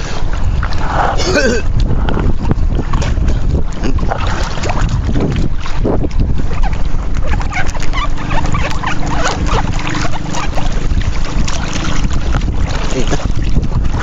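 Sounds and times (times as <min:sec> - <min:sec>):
water lapping against boat hull: 0:00.0 - 0:14.0
wind buffeting microphone: 0:00.0 - 0:14.0.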